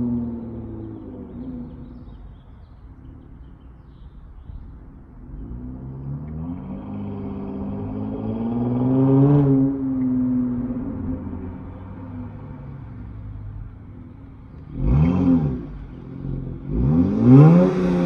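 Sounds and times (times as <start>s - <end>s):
car exhaust accelerating: 0.0s - 18.0s.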